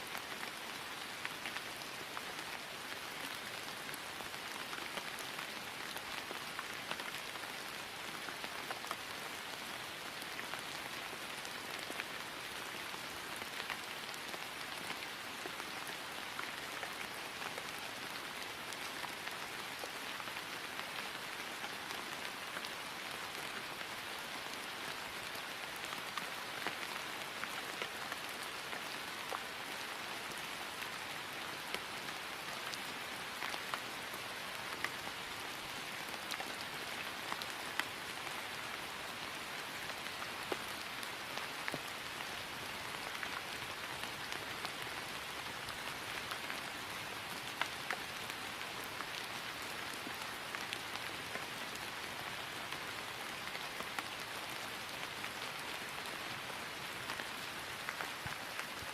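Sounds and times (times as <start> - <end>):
rain falling on grass: 0.0 - 58.9.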